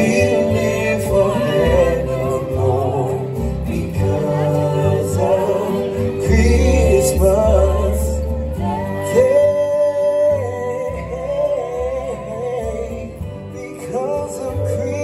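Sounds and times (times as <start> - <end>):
voices singing with accompaniment: 0.0 - 15.0.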